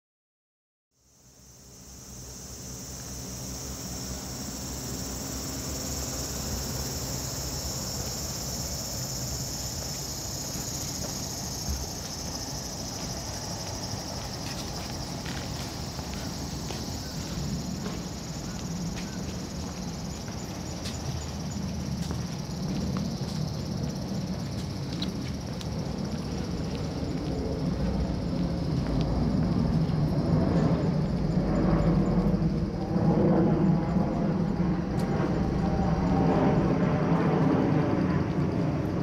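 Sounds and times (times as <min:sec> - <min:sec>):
insects shrill chorus: 0:01.0 - 0:39.0
low background rumble: 0:06.9 - 0:39.0.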